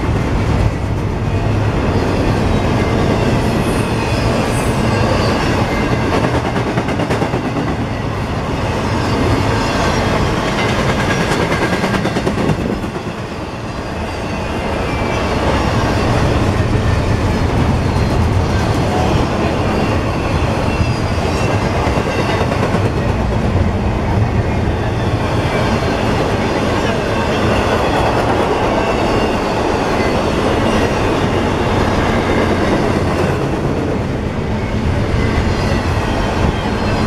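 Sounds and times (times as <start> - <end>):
freight train wheels on rails: 0.0 - 37.0.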